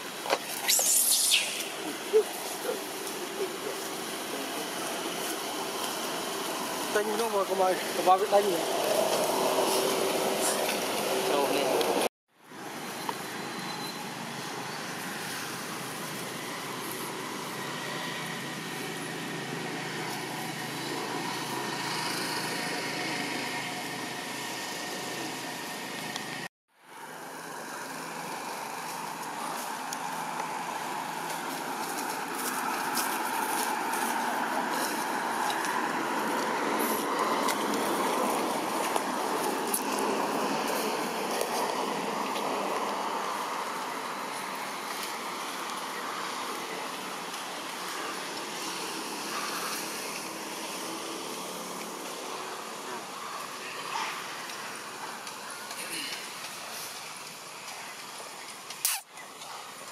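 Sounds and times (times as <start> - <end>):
outdoor background noise: 0.0 - 59.9.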